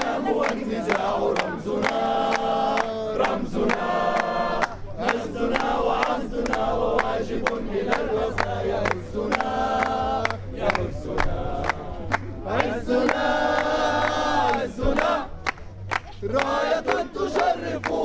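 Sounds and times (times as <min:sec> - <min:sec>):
crowd chanting in unison: 0:00.0 - 0:15.4, 0:16.2 - 0:18.0
crowd clapping steadily: 0:00.0 - 0:18.0.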